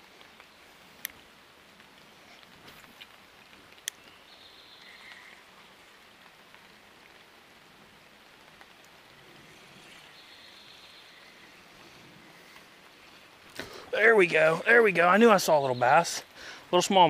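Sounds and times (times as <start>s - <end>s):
light rain on water: 0.0s - 17.0s.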